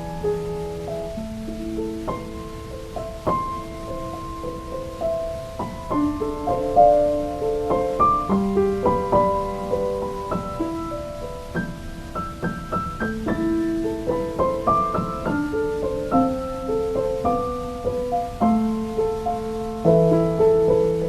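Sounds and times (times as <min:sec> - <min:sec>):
faint steady hiss: 0:00.0 - 0:21.0
slow solo piano: 0:00.0 - 0:21.0.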